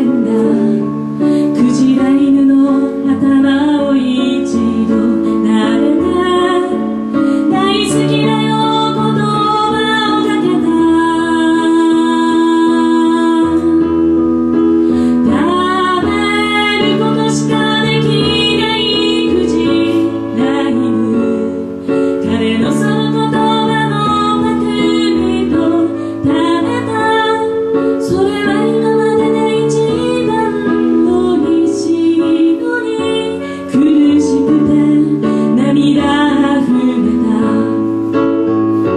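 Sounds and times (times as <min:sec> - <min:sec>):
woman singing: 0:00.0 - 0:38.3
electronic keyboard: 0:00.0 - 0:38.9.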